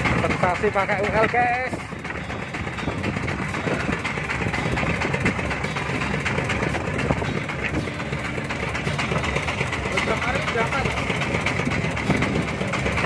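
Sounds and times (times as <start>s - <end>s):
boat engine running: 0.0s - 13.0s
constant rushing noise: 0.0s - 13.0s.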